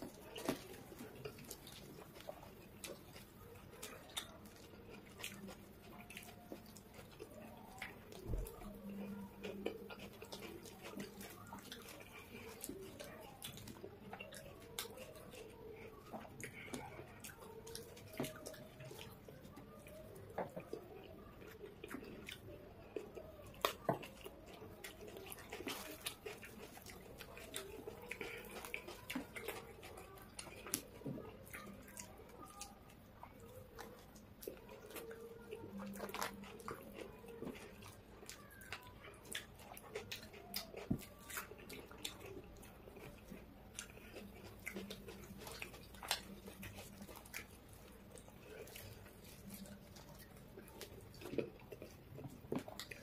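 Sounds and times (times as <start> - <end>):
people chewing: 0.0 - 53.0.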